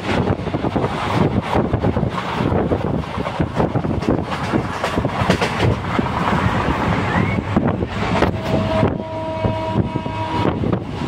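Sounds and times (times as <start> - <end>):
train carriage rattling: 0.0 - 11.0
wind buffeting microphone: 0.0 - 11.0.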